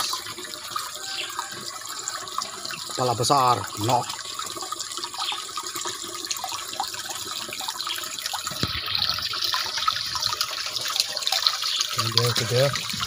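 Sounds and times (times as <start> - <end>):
water drips and plops: 0.0 - 13.0
water splashing and trickling: 0.0 - 13.0.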